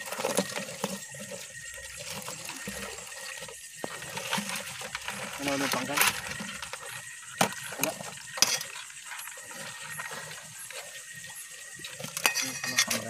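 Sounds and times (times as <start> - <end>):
water splashing in plastic bucket: 0.0 - 13.0.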